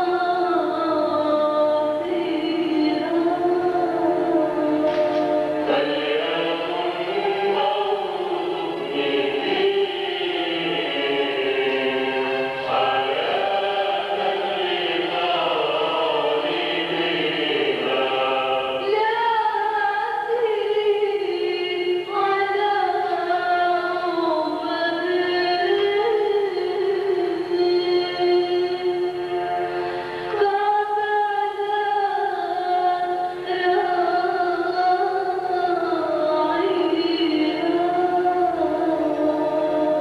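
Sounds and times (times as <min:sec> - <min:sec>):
choir singing a hymn: 0:00.0 - 0:27.5, 0:28.9 - 0:40.0.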